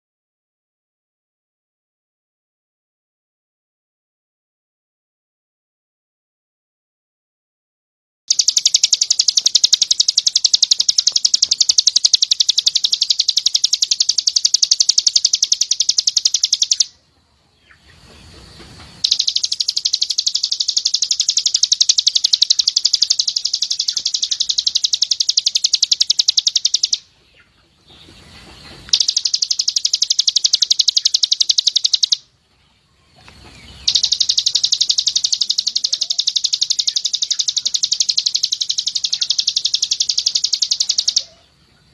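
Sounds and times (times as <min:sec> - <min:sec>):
bird rapid high song: 0:08.3 - 0:41.9.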